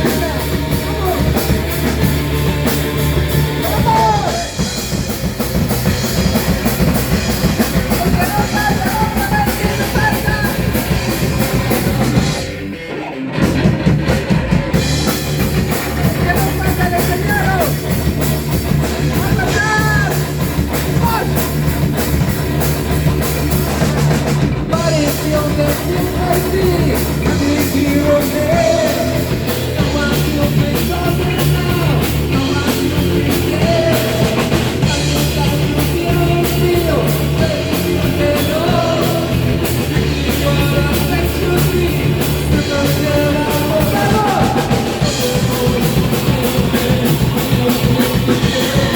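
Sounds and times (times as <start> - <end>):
loud rock band with drums: 0.0 - 48.9.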